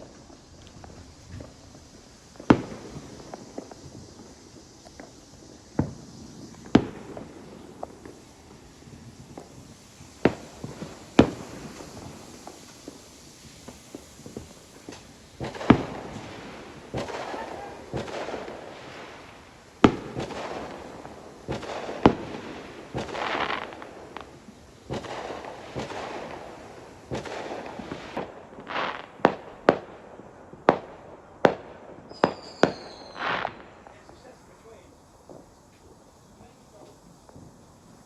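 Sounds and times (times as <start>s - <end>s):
firework whistle: 0.0s - 30.0s, 30.6s - 38.0s
fireworks bangs: 0.0s - 38.0s
sharp firework cracks: 0.0s - 38.0s.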